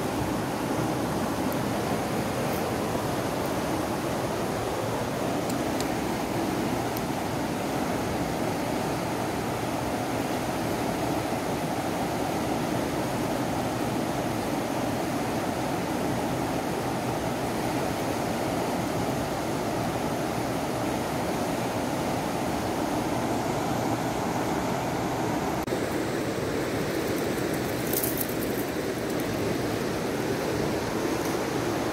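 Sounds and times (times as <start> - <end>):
river rushing over rapids: 0.0 - 31.9.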